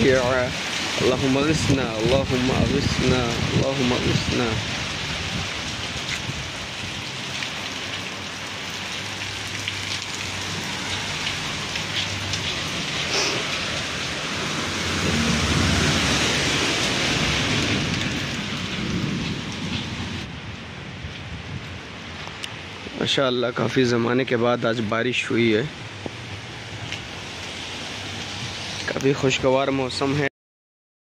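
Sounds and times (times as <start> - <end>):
steady rain pattering: 0.0 - 30.3.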